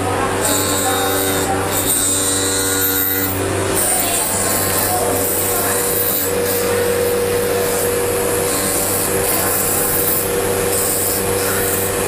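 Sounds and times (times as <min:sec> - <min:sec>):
grinder motor whine: 0:00.0 - 0:12.0.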